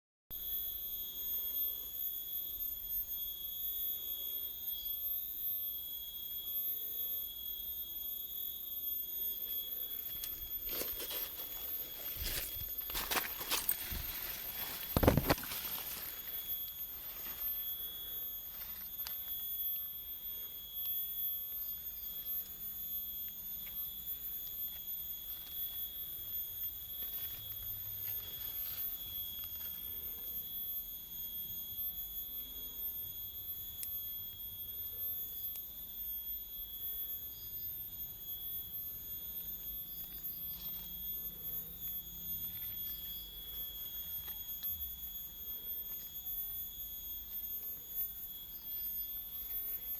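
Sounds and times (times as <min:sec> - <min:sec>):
steady high-pitched whine: 0:00.3 - 0:49.9.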